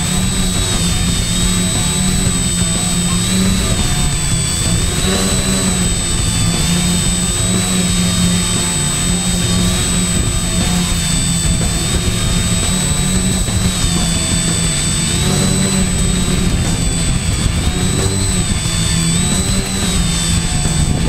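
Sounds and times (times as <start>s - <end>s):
drone propeller hum and motor whine: 0.0s - 21.0s.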